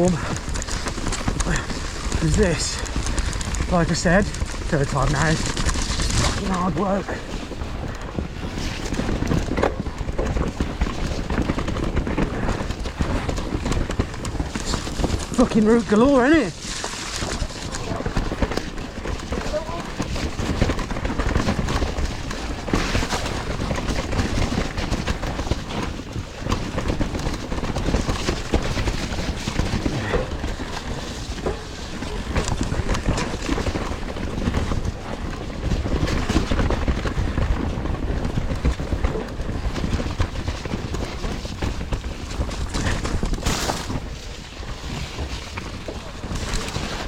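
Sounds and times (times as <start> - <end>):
bike clattering over bumps: 0.0 - 47.0
tyre and wind noise: 0.0 - 47.0.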